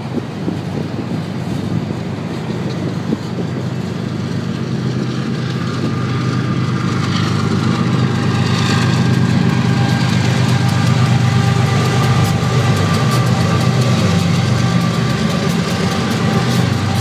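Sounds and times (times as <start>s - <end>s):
diesel locomotive engine drone: 0.0s - 17.0s
thin steady whine: 0.0s - 17.0s.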